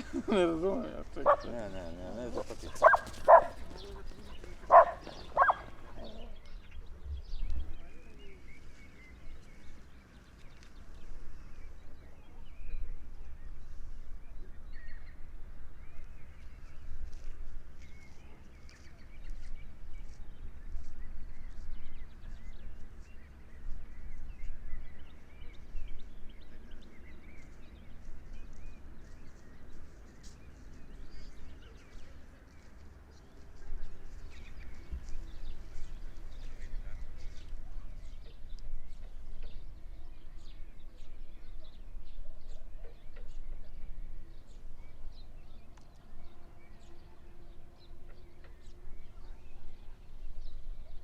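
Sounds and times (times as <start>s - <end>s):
wild birds chirping: 0.0s - 51.0s.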